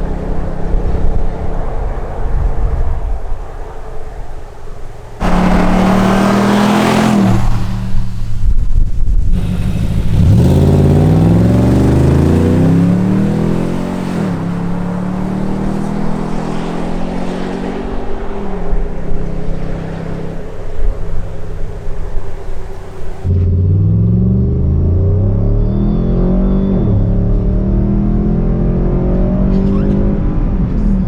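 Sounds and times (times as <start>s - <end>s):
car engine exhaust accelerating: 0.0s - 31.0s.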